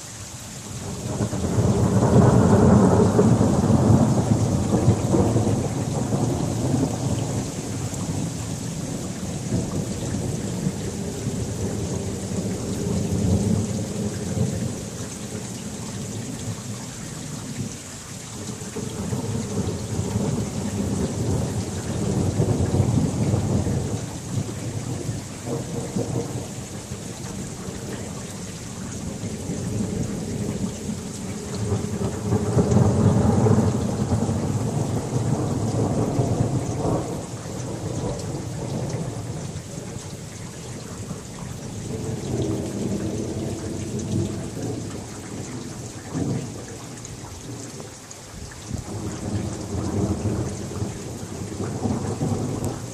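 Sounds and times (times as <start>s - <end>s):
heavy rain: 0.0s - 52.9s
thunder rumbling: 0.9s - 15.4s, 18.4s - 40.3s, 41.8s - 47.6s, 48.7s - 52.9s.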